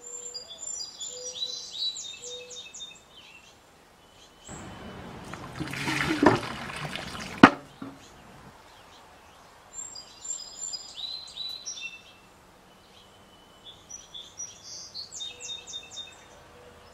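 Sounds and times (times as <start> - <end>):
small songbird chirping: 0.0 - 5.7, 6.4 - 16.9
faint outdoor background: 0.0 - 16.9.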